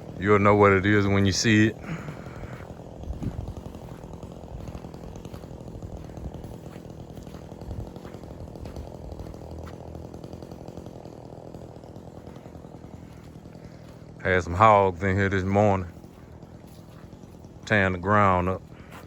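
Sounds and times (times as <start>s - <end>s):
small gasoline engine idling: 0.0s - 19.0s.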